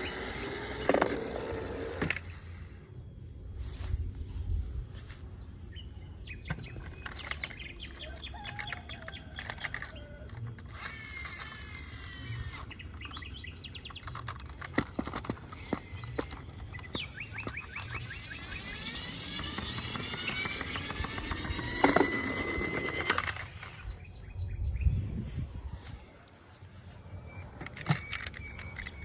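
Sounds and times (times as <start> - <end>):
birds chirping: 0.0 - 3.5, 4.1 - 29.0.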